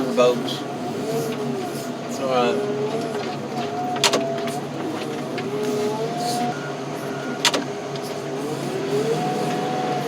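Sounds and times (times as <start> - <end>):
heavy equipment engine running: 0.0 - 10.0
hydraulic whine: 0.0 - 10.0.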